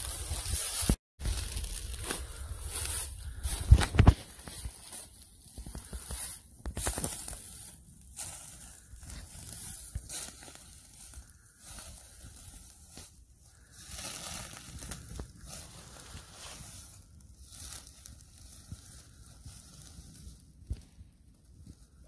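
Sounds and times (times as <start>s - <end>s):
footsteps crunching dry leaves: 0.0s - 22.0s.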